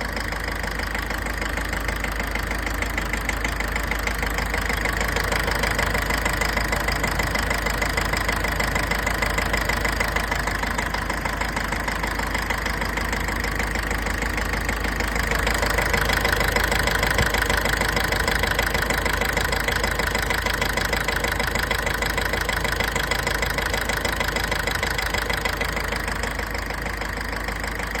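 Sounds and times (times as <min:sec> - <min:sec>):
diesel engine idling with knock: 0:00.0 - 0:28.0.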